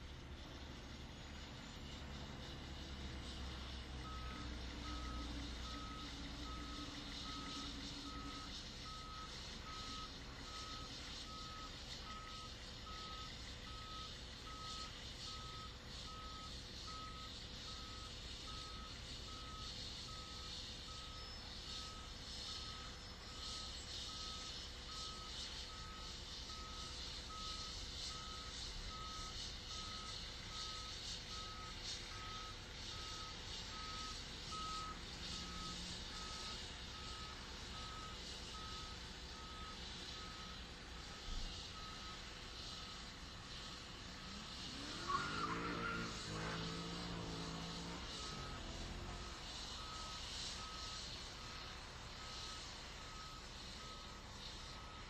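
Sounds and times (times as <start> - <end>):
engine running low: 0.0 - 55.0
reverse alarm beeping: 1.2 - 55.0.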